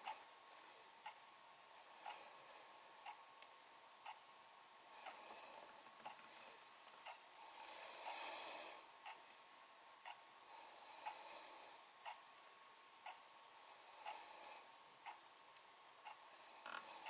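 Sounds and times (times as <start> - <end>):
faint clock ticking: 0.0 - 17.0
soft hiss: 0.0 - 17.0.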